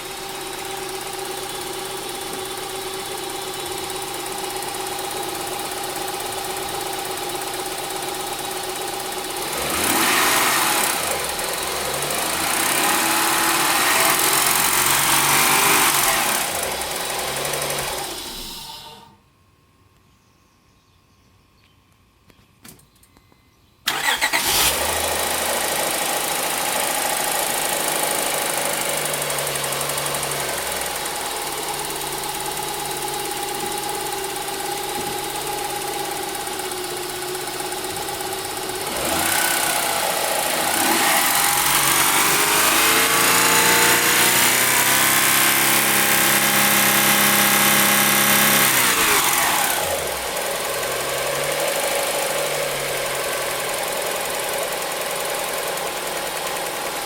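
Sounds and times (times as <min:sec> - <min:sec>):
car engine idling and revving: 0:00.0 - 0:19.0, 0:23.9 - 0:57.0
car engine starting: 0:06.4 - 0:19.2, 0:23.9 - 0:57.0.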